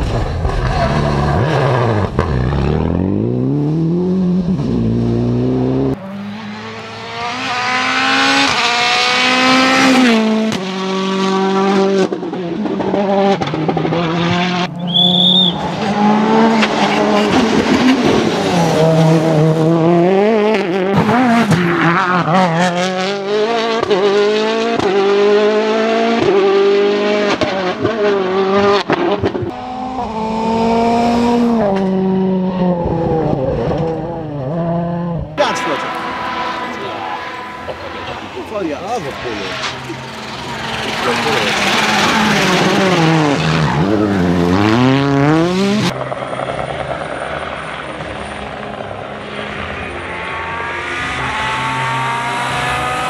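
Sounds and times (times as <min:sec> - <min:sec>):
cars accelerating past: 0:00.0 - 0:53.0
rally car engines revving: 0:00.0 - 0:53.0.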